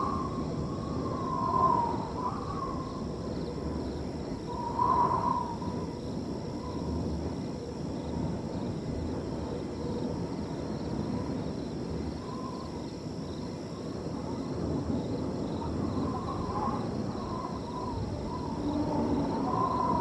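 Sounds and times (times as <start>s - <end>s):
crickets trilling: 0.0s - 20.0s
wind blowing through field: 0.0s - 20.0s.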